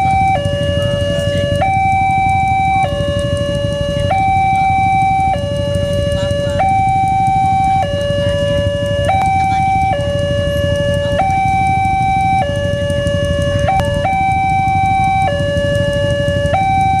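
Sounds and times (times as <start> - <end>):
two-tone level crossing siren: 0.0 - 17.0.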